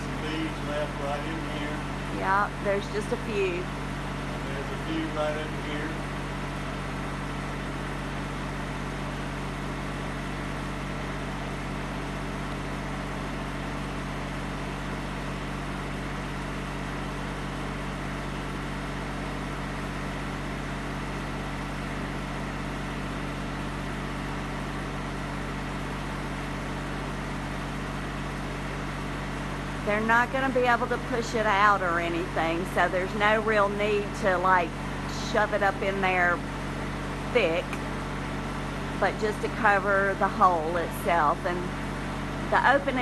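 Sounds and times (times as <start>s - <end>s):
portable generator running: 0.0s - 43.0s.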